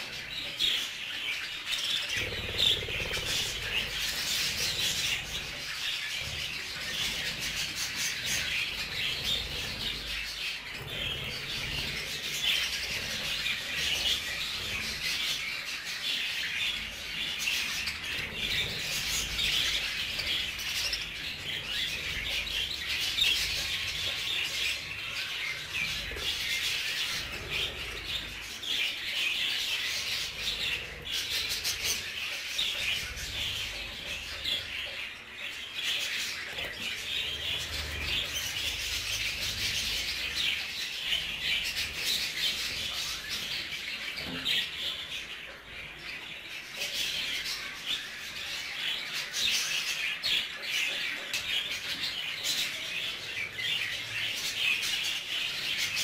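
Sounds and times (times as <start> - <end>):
budgerigars chattering and warbling: 0.0 - 56.0.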